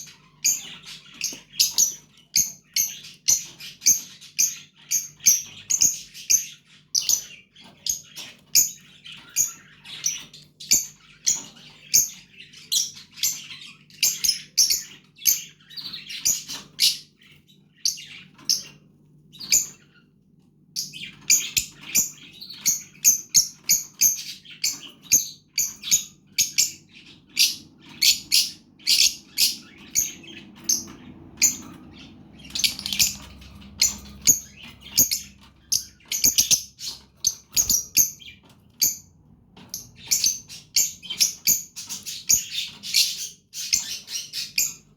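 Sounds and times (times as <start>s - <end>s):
bird chicks chirping: 0.0s - 44.9s.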